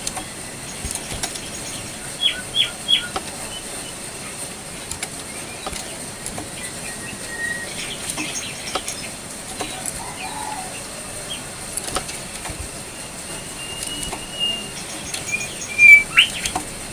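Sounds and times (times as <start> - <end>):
faint chirps and ticks: 0.0 - 16.9
steady hiss: 0.0 - 16.9
songbird calling sharp notes: 0.2 - 4.1, 5.3 - 11.5, 12.2 - 16.7.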